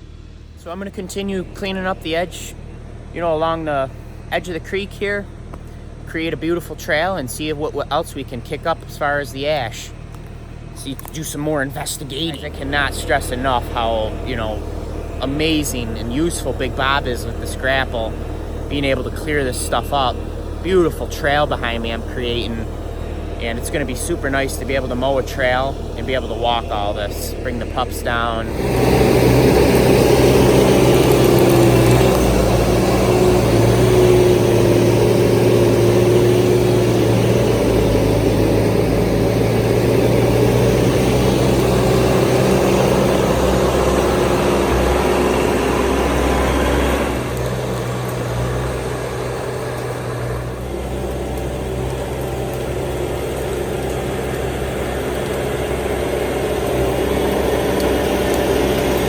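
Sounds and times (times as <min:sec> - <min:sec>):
loader diesel engine running: 0:00.0 - 0:59.0.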